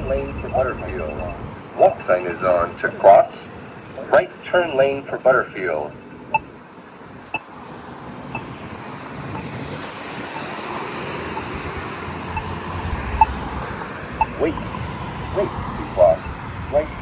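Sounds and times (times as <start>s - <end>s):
crosswalk button ticking: 0.0s - 6.5s, 8.3s - 8.6s, 9.2s - 17.0s
road traffic passing: 0.0s - 17.0s.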